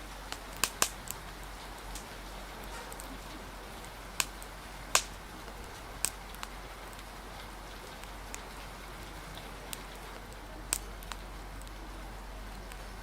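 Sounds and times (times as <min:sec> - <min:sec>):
rain hiss: 0:00.0 - 0:13.0
wood fire crackling: 0:00.0 - 0:13.0.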